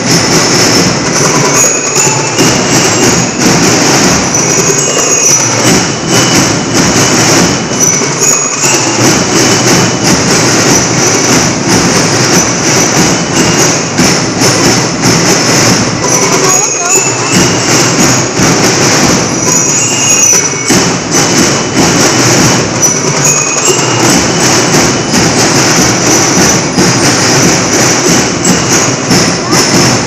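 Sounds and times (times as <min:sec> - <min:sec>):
marching band drums: 0:00.0 - 0:30.0.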